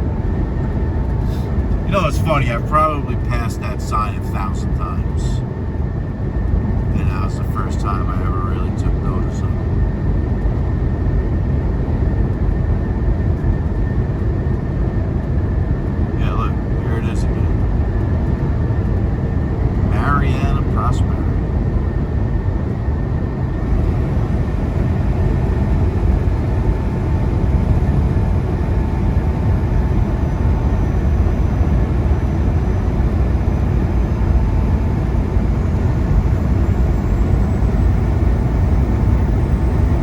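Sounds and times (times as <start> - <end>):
road noise: 0.0 - 40.0
truck diesel engine rumble: 0.0 - 40.0.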